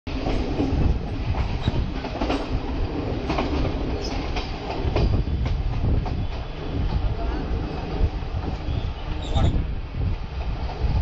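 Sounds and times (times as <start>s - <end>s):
wheels clacking over rail joints: 0.1s - 9.6s
train rumbling: 0.1s - 11.0s.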